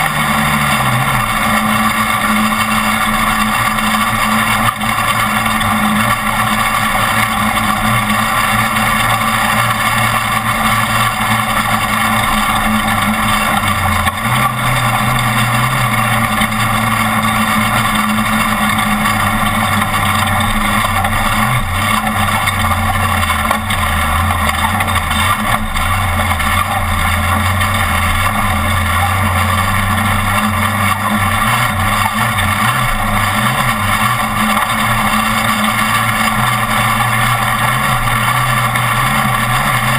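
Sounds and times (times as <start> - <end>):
road and wind noise: 0.0 - 39.9
truck engine running hard: 0.0 - 39.9.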